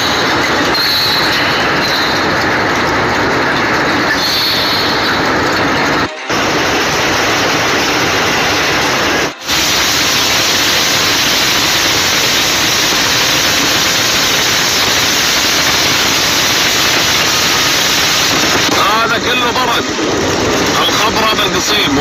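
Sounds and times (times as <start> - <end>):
heavy rain: 0.0 - 22.0
storm water rushing: 0.0 - 22.0.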